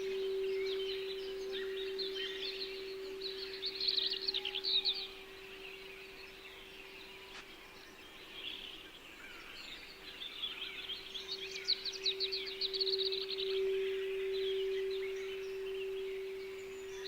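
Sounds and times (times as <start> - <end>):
low held tone: 0.0 - 7.3, 10.6 - 17.0
songbirds chirping: 0.0 - 17.0.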